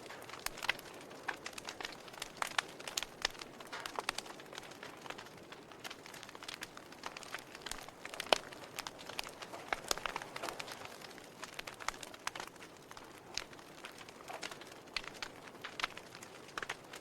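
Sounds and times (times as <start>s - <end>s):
fire popping and snapping: 0.0s - 17.0s
wood fire hissing: 0.0s - 17.0s.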